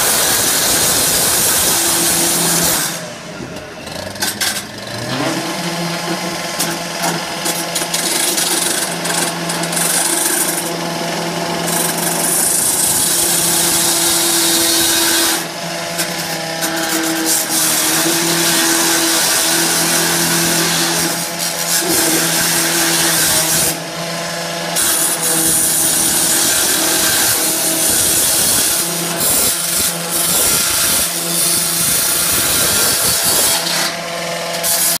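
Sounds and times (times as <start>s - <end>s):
cut-off saw engine running: 0.0s - 35.0s
saw blade cutting steel: 0.0s - 35.0s.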